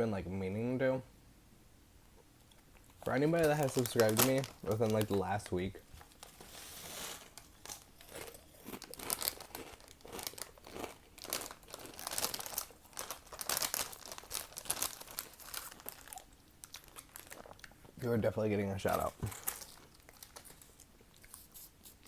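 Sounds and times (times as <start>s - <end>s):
chips crunching: 2.5s - 17.9s, 18.9s - 22.0s
chip bag crinkling: 2.8s - 18.1s, 18.8s - 22.0s.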